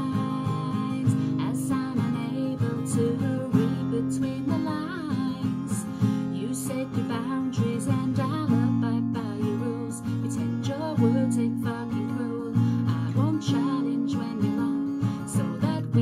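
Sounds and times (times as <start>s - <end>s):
acoustic guitar strumming: 0.0s - 16.0s
woman singing: 0.0s - 16.0s.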